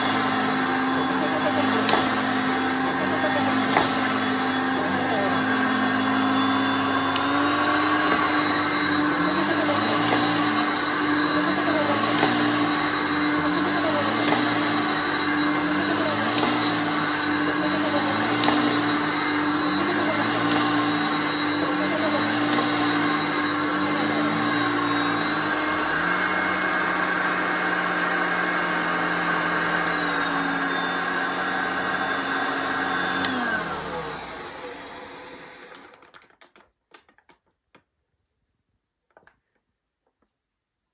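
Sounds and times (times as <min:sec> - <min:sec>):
vacuum cleaner on carpet: 0:00.0 - 0:35.9
vacuum motor winding down: 0:00.0 - 0:36.0.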